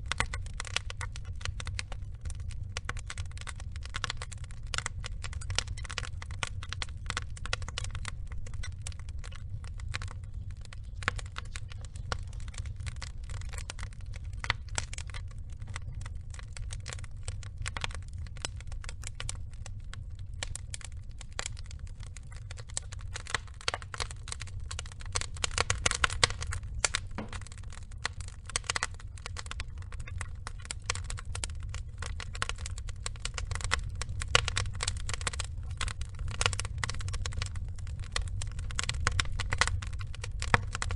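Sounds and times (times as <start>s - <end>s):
burning logs crackling and popping: 0.0s - 40.9s
low rumble of flame: 0.0s - 40.9s.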